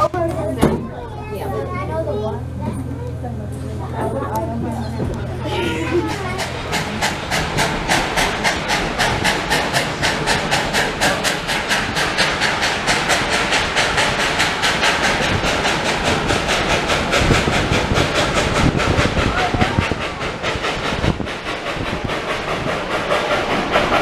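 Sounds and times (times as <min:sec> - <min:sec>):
steam locomotive chuffing: 0:00.0 - 0:24.0.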